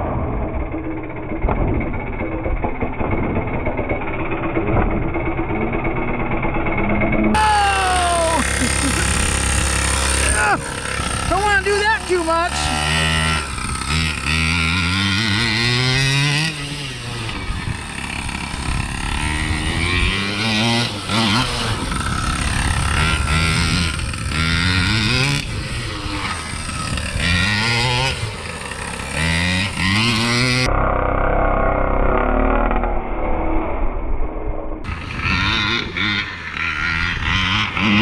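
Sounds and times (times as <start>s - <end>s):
two-stroke engine revving: 0.0s - 33.3s, 34.8s - 38.0s.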